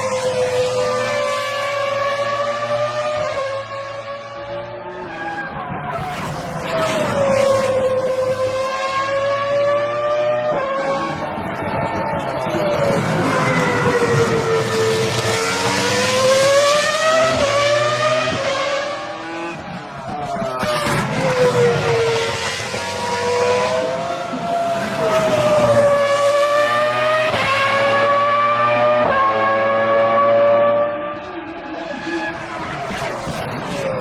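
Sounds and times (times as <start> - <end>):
racing car engine at high revs: 0.0 - 34.0.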